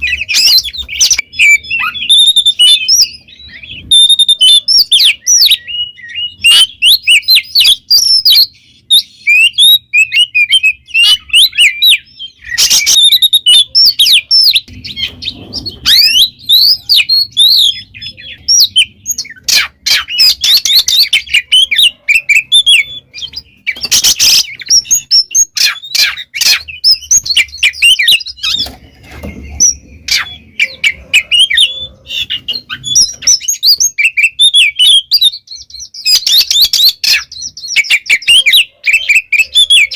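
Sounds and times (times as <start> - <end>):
bird song whistles and chirps: 0.0 - 39.9.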